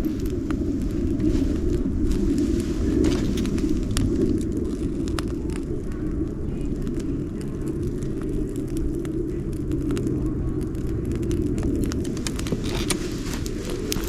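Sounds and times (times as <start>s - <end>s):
low fire rumble: 0.0s - 14.0s
wood crackling and popping: 0.0s - 14.0s.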